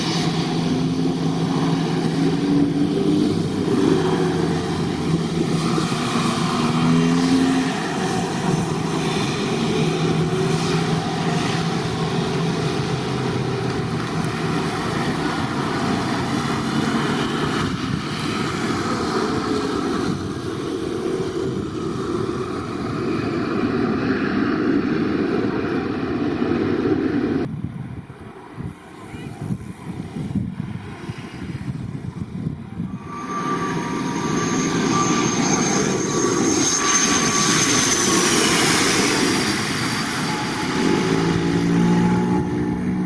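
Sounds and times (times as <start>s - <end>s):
jet engines at takeoff thrust: 0.0s - 43.0s.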